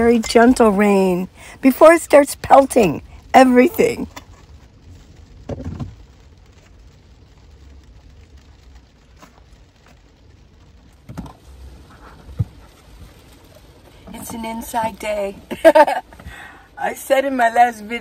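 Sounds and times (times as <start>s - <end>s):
low steady hum: 0.0s - 18.0s
rain pattering on a van roof: 0.0s - 18.0s.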